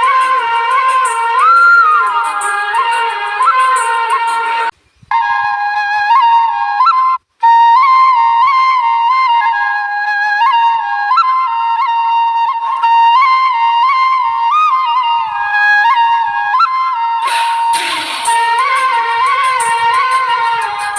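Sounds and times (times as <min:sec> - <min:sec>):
solo flute melody: 0:00.0 - 0:20.9.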